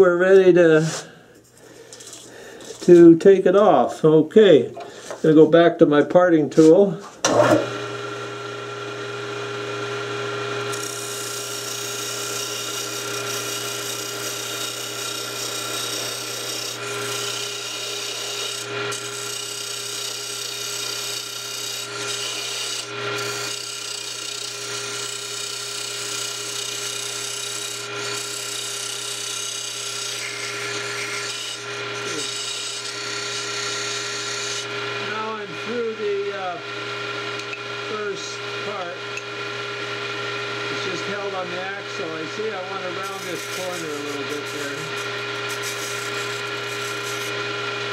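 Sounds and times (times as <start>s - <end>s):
tool scraping spinning wood: 0.0s - 3.9s, 6.5s - 8.5s, 10.1s - 47.9s
lathe humming: 6.6s - 47.9s.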